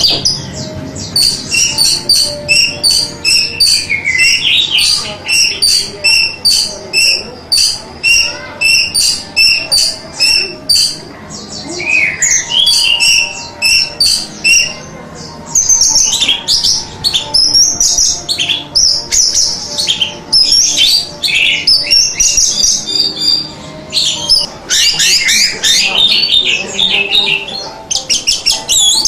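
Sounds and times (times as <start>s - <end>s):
thrush singing whistled notes: 0.0s - 29.0s.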